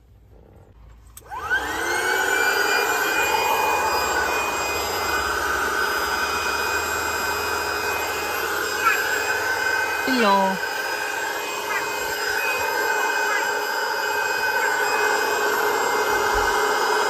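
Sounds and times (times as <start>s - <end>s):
electric air pump whining: 1.2s - 17.0s.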